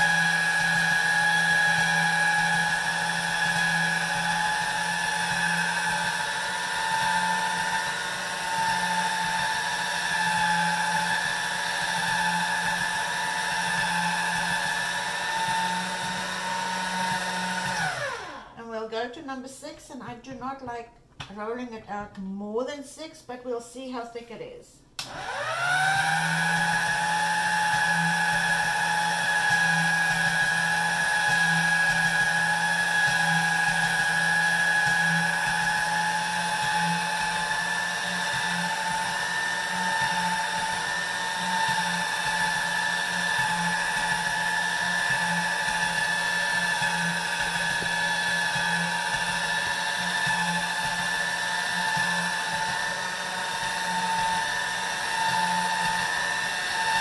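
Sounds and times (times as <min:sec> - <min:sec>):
pasta machine motor whining: 0:00.0 - 0:18.7, 0:25.0 - 0:57.0.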